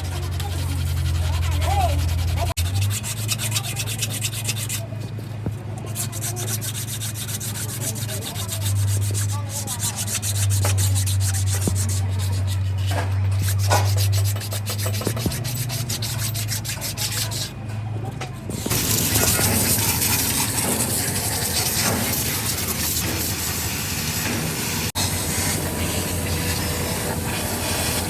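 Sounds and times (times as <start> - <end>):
abrasive rubbing on metal part: 0.0 - 28.0.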